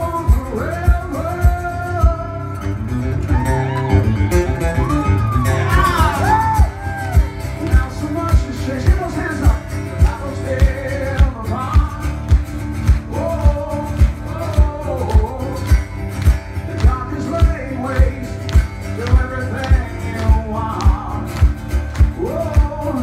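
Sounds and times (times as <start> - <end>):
man singing: 0.0 - 2.8, 5.6 - 23.0
strummed acoustic guitar: 0.0 - 23.0.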